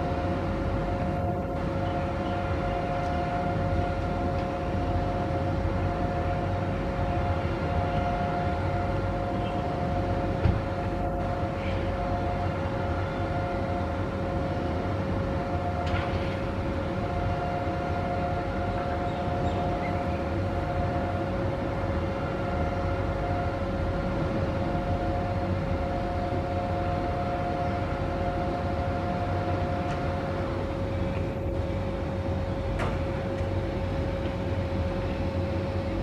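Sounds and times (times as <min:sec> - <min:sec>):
constant mechanical whine: 0:00.0 - 0:36.0.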